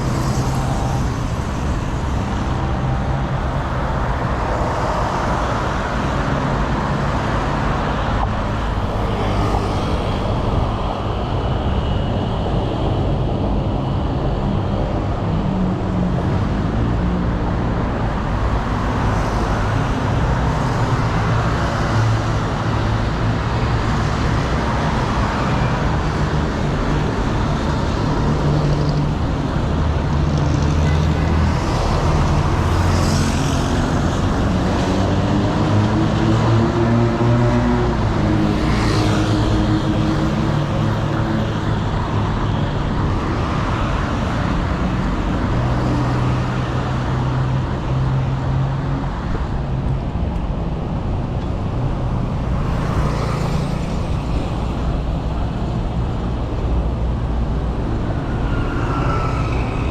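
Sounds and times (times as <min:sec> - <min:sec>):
tyres on road: 0:00.0 - 0:59.9.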